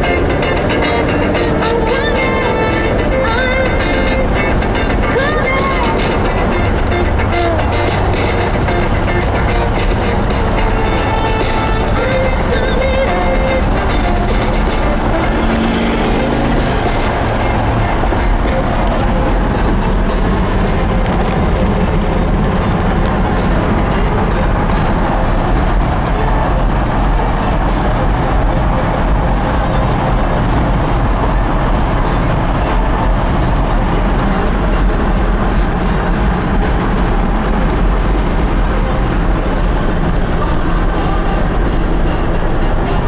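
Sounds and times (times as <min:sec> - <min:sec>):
car engine drone: 0:00.0 - 0:43.0
road and wind noise: 0:00.0 - 0:43.0.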